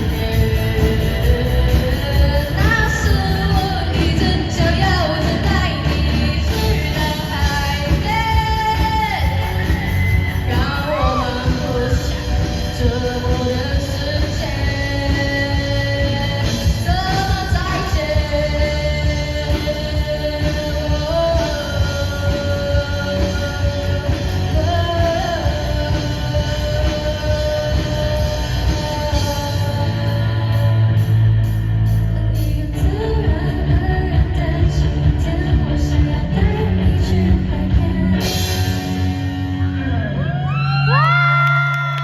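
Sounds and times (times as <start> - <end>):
pop-rock band playing: 0.0 - 42.0.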